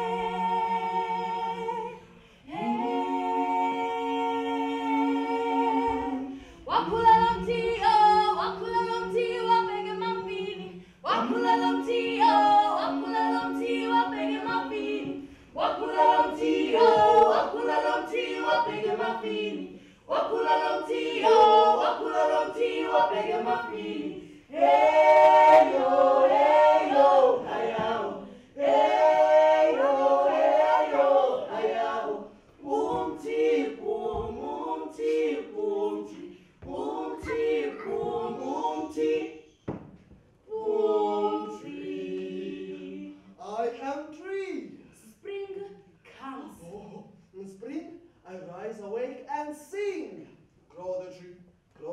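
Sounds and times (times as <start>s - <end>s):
group singing a cappella: 0.0s - 48.9s.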